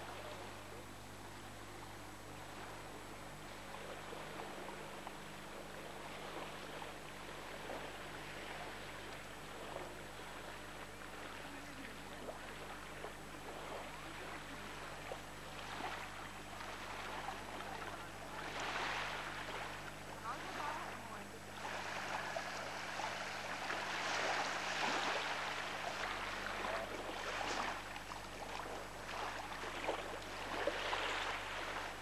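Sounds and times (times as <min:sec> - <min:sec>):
low hum: 0:00.0 - 0:32.0
wind: 0:00.0 - 0:32.0.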